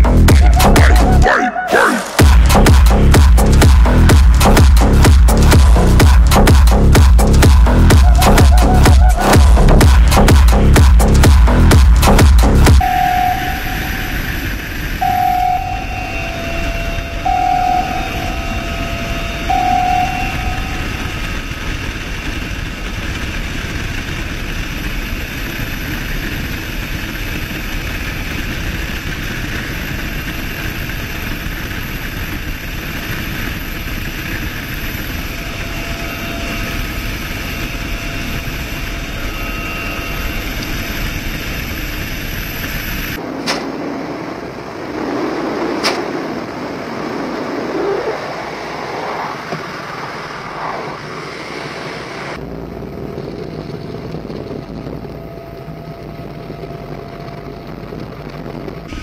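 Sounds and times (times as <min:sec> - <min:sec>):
helicopter rotor and wind noise: 0:00.0 - 0:01.3, 0:02.1 - 0:59.0.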